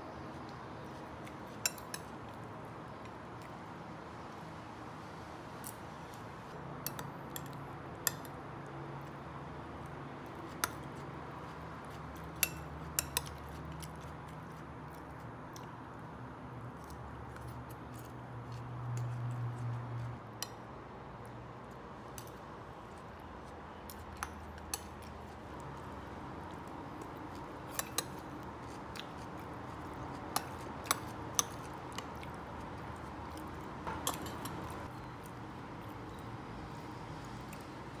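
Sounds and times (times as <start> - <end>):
low steady background noise: 0.0 - 38.0.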